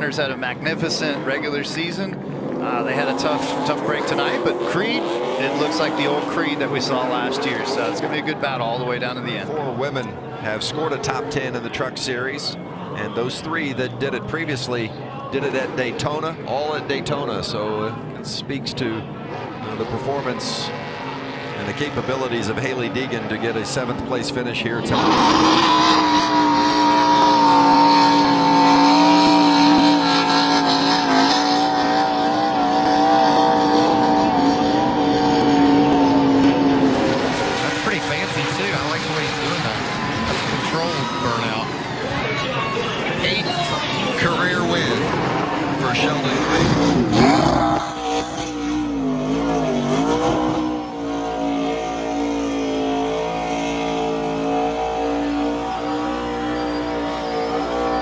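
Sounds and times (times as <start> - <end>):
engine at high revs: 0.0 - 11.5, 18.8 - 58.0.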